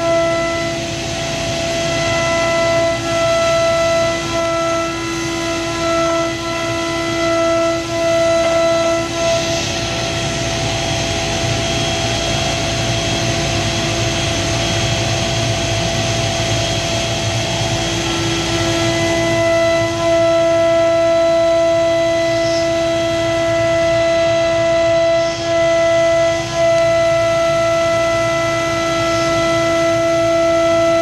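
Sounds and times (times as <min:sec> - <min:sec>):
router spindle milling metal: 0:00.0 - 0:31.0.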